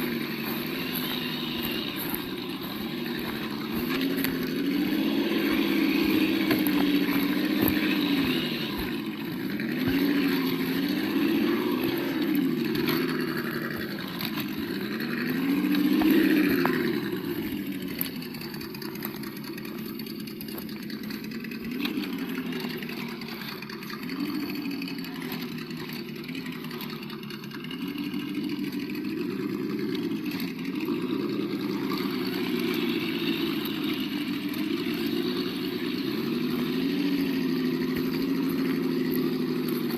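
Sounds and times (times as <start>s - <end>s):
simulated engine sound revving: 0.0s - 39.9s.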